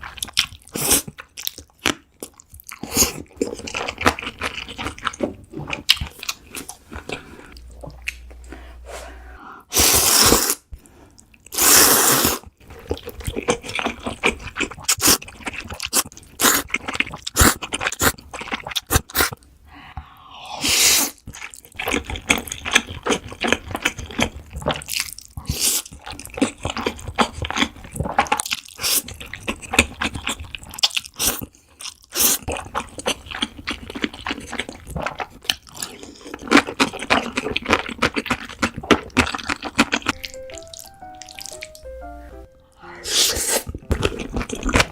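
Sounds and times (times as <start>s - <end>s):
wet chewing of noodles: 0.0s - 8.7s, 9.7s - 19.4s, 20.2s - 41.8s, 43.1s - 44.9s.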